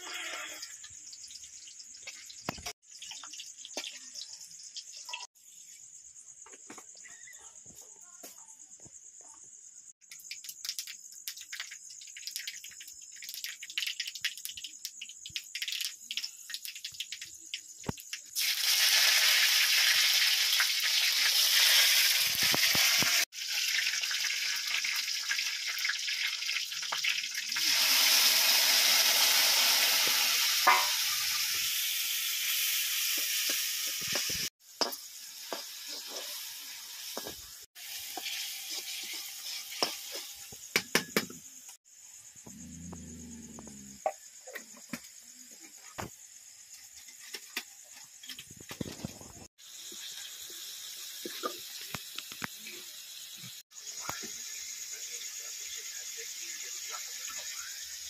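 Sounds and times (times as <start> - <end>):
food sizzling in hot oil: 0.0 - 6.3, 10.0 - 42.4, 44.0 - 58.0.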